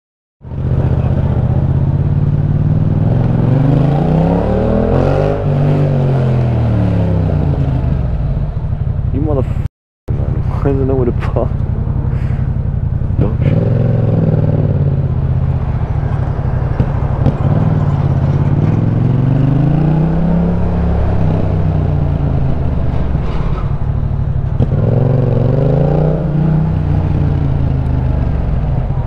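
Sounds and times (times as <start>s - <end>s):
motorcycle engine revving: 0.4s - 29.0s.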